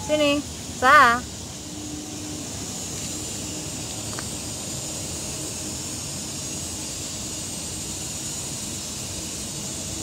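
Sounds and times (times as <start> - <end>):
even hiss: 0.0 - 10.0.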